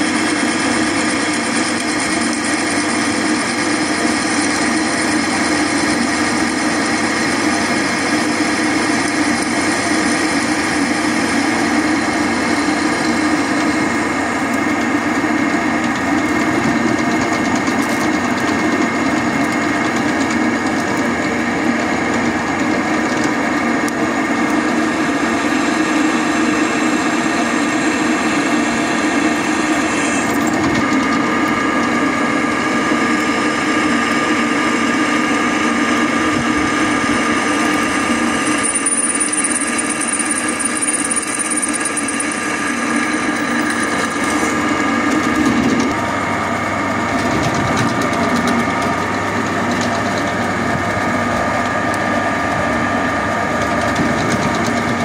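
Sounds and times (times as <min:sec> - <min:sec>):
electric drill boring steel: 0:00.0 - 0:55.0.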